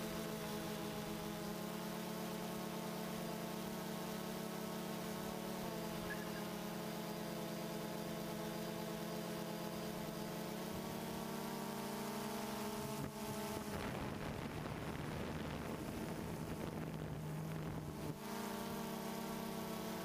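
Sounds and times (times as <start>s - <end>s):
drone propellers whirring: 0.2s - 20.0s.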